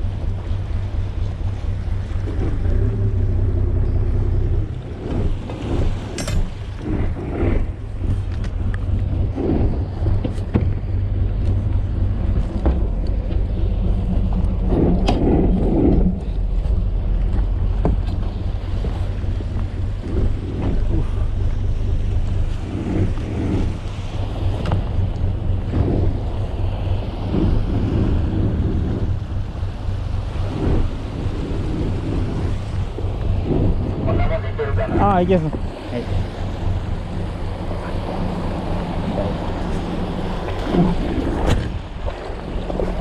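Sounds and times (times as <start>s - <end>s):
boat engine running: 0.0s - 43.0s
wind gusts on microphone: 0.0s - 43.0s.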